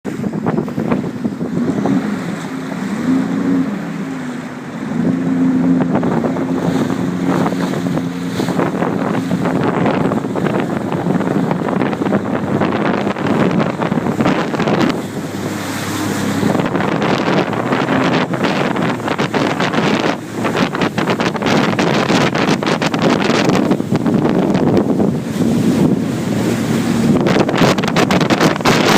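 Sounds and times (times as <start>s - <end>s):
jet ski engine humming: 0.0s - 28.9s
water rushing: 0.0s - 28.9s
wind buffeting microphone: 0.0s - 28.9s.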